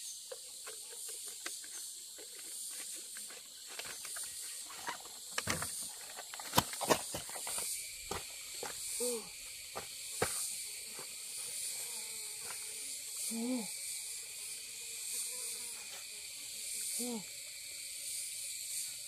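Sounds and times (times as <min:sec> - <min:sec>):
forest insects buzzing: 0:00.0 - 0:19.0.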